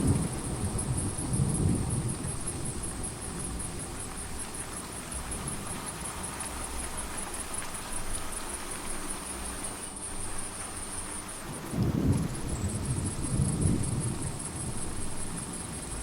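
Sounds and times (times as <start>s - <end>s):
crickets chirping: 0.0s - 16.0s
rain hiss: 0.0s - 16.0s.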